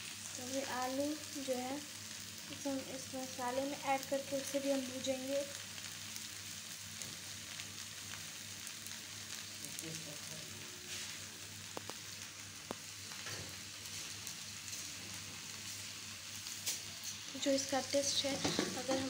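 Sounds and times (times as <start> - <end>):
potatoes sizzling in frying pan: 0.0 - 19.0.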